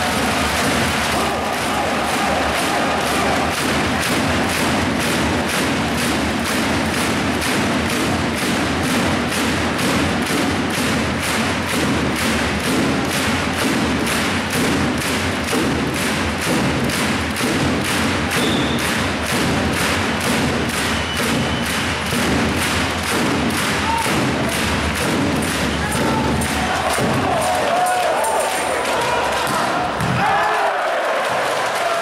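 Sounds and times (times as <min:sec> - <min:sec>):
crowd beating a rhythm: 0:00.0 - 0:32.0
crowd noise: 0:00.0 - 0:32.0.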